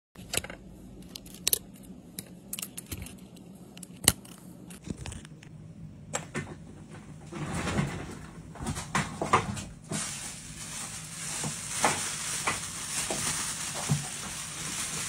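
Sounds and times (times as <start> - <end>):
faint steady hum: 0.2 - 15.0.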